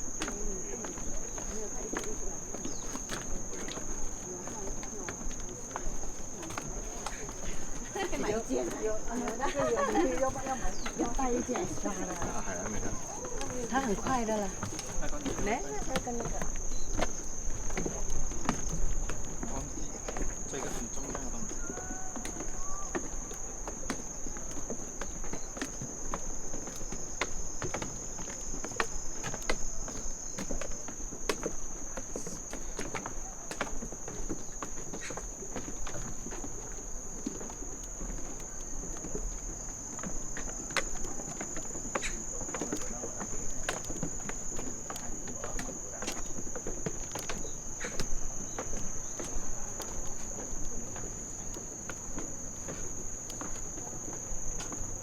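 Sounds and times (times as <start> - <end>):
footsteps on path: 0.0 - 55.0
insects trilling: 0.0 - 55.0.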